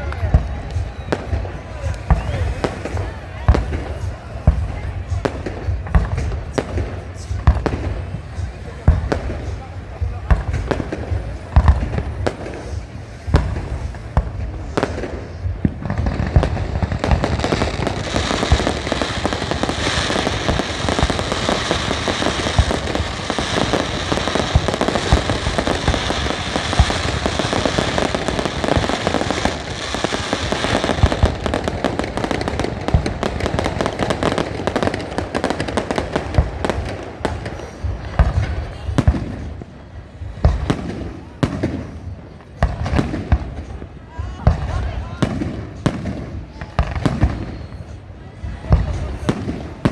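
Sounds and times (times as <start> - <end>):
deep firework booms: 0.0 - 49.9
fireworks crackling pops: 0.0 - 49.9.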